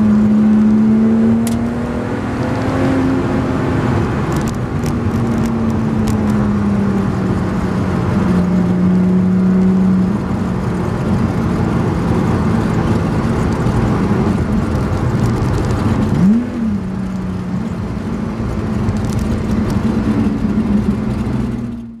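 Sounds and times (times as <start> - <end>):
road and tyre rumble: 0.0 - 22.0
car engine pulling: 3.8 - 22.0.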